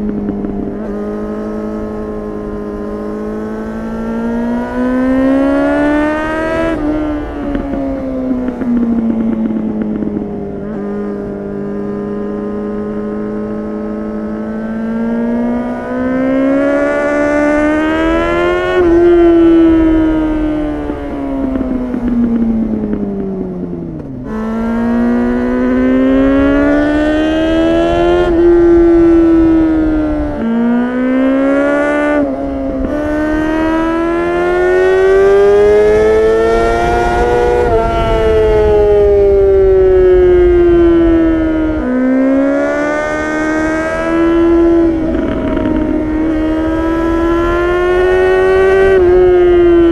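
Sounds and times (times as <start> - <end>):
motorcycle engine under throttle: 0.0 - 49.9
wind noise: 0.0 - 49.9.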